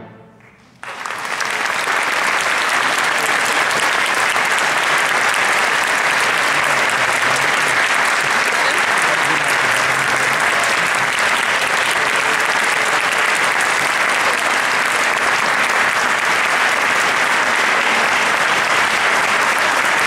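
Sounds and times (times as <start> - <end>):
audience applauding: 0.4 - 20.0.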